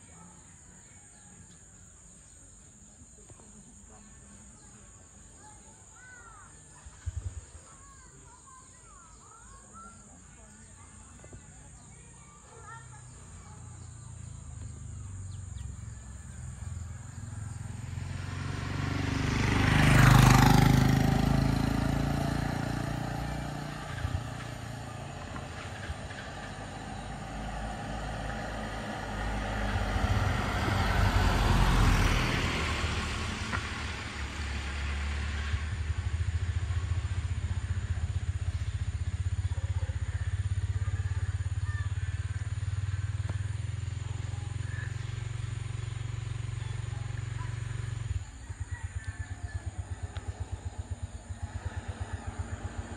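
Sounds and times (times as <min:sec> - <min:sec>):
low engine rumble: 0:00.0 - 0:52.9
road traffic passing: 0:00.0 - 0:52.9.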